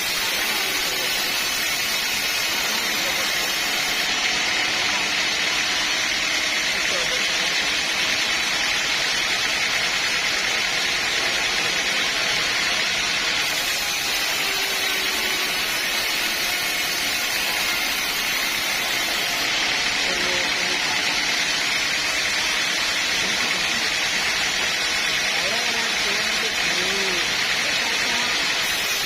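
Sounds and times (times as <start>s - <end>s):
sawmill machinery running: 0.0s - 29.0s.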